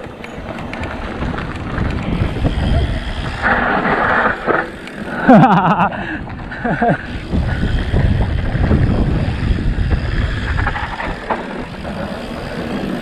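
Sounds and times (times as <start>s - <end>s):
wind buffeting microphone: 0.0s - 4.8s, 5.8s - 13.0s
bike rattling: 0.0s - 13.0s.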